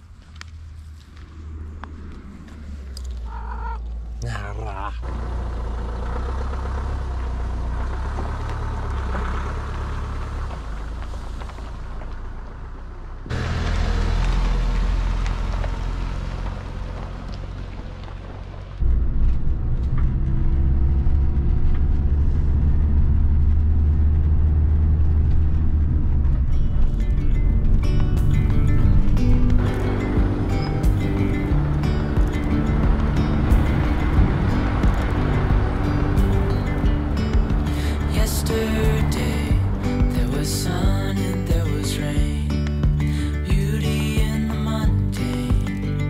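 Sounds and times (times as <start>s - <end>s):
engine drone inside cab: 0.0s - 46.0s
van engine driving on gravel: 0.0s - 46.0s.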